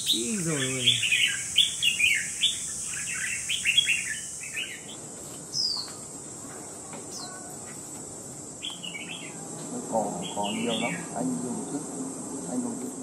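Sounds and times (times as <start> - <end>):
bird chirping notes: 0.0 - 7.9, 8.6 - 12.7.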